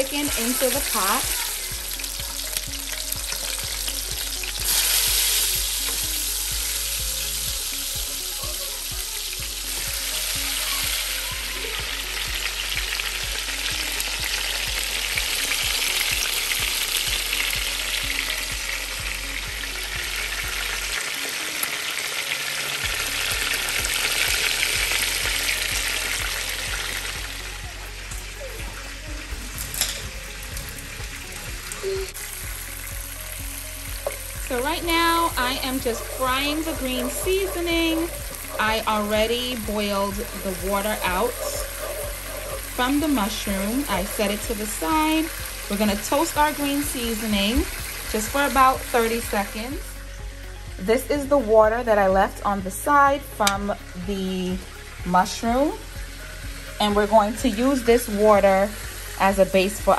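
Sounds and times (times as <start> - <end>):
chicken sizzling in hot oil: 0.0 - 59.9.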